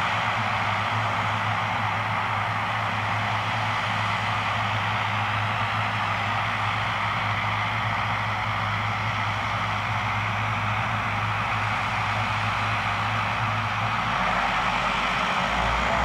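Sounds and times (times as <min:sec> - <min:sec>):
low propeller hum: 0:00.0 - 0:16.0
steady engine hiss: 0:00.0 - 0:16.0
turboprop engines idling: 0:00.0 - 0:16.0.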